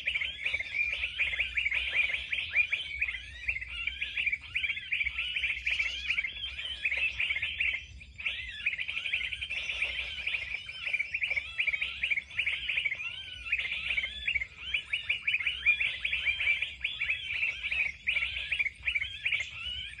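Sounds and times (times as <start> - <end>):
birds chirping rapidly: 0.0 - 20.0.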